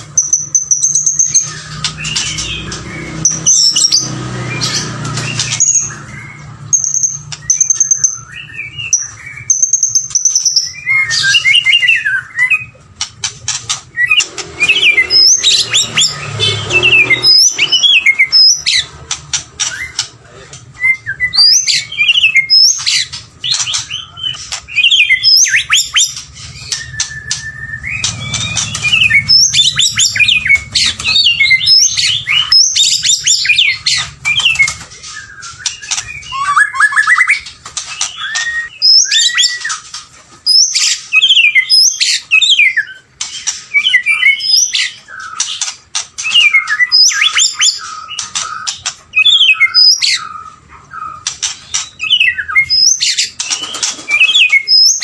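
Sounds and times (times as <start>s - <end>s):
bird singing whistles and chatter: 0.0s - 12.8s, 13.9s - 55.0s.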